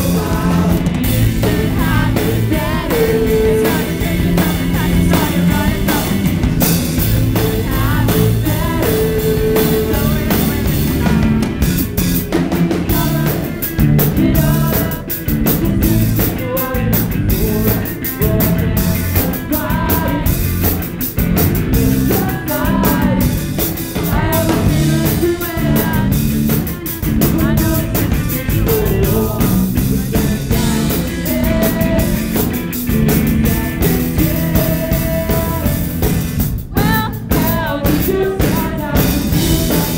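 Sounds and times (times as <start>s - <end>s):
drum kit: 0.0s - 39.9s
electric guitar: 0.0s - 39.9s
man singing lead: 0.0s - 39.9s.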